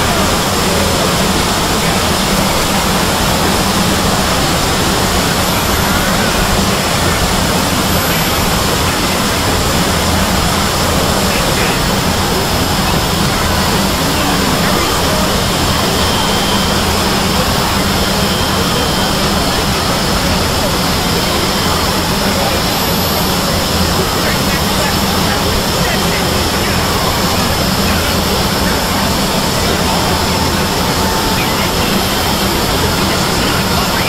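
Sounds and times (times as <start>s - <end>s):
loud wall of blended noise: 0.0s - 34.0s.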